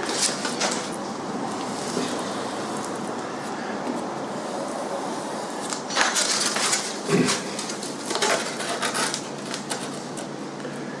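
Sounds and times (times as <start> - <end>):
foam sheet scratching and crackling: 0.0 - 3.6, 4.4 - 10.1.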